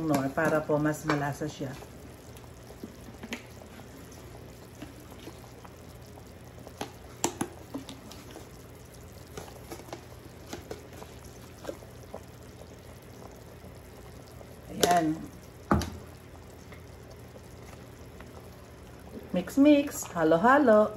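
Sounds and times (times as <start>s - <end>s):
low steady hum: 0.0s - 20.9s
soup bubbling: 0.0s - 20.9s.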